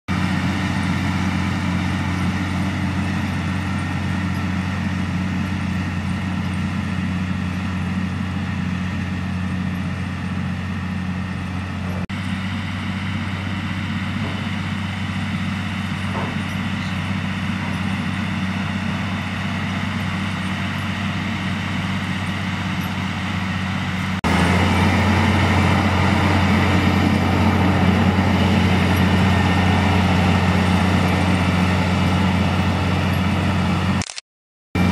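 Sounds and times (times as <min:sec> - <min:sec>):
tractor diesel engine humming: 0:00.1 - 0:34.2.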